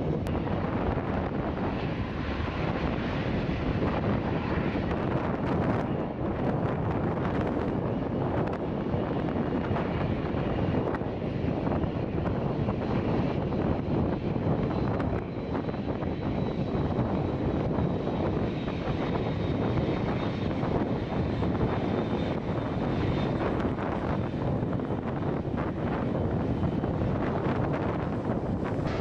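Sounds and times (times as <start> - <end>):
jet engines rushing: 0.0 - 29.0.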